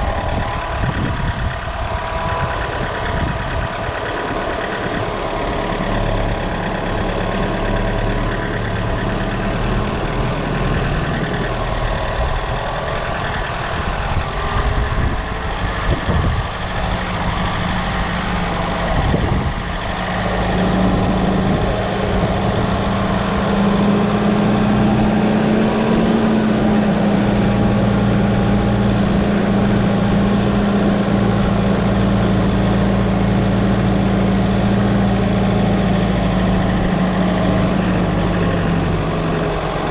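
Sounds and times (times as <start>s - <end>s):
machine engine running: 0.0s - 39.9s.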